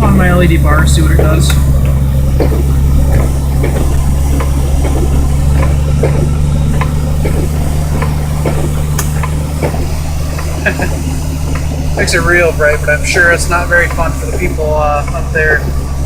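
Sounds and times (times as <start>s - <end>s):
car engine droning inside cab: 0.0s - 16.0s.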